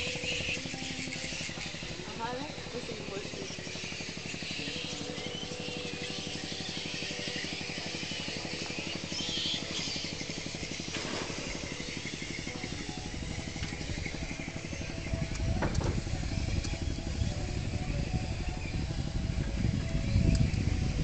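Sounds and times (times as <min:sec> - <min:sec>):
boat engine thumping: 0:00.0 - 0:21.0.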